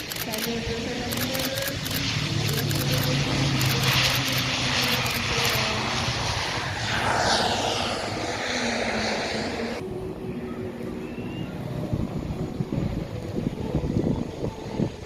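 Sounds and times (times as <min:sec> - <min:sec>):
airplane passing overhead: 0:00.0 - 0:15.0
low rumble: 0:01.8 - 0:15.0.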